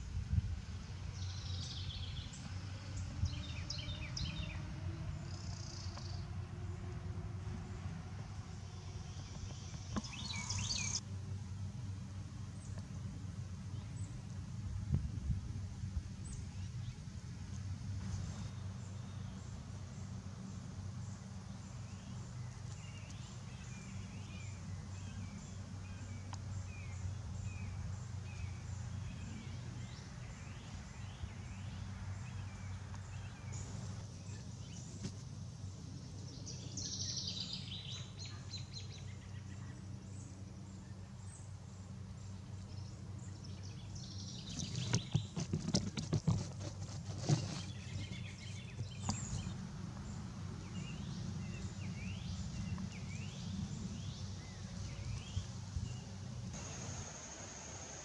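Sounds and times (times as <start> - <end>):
steady low hum: 0.0 - 58.0
small birds chirping: 0.8 - 6.9, 8.6 - 11.8, 16.2 - 56.8.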